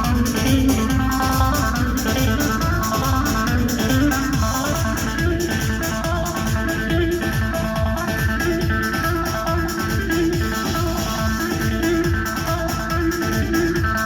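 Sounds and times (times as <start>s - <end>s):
instrumental dance music: 0.0s - 14.0s.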